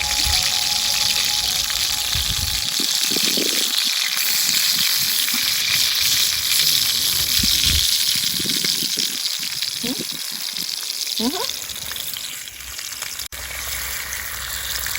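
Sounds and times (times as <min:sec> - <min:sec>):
food sizzling over fire: 0:00.0 - 0:14.9.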